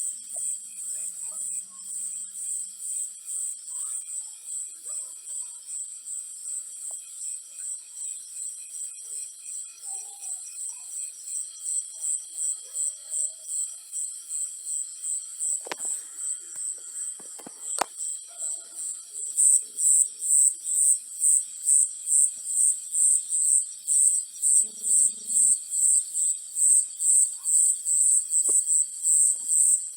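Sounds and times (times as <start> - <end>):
insect chirping: 0.0 - 29.9.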